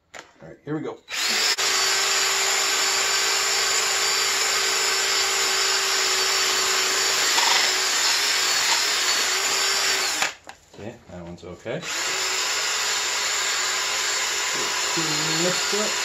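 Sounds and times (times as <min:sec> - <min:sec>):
cordless drill motor whine: 0:01.1 - 0:10.4, 0:11.8 - 0:16.0.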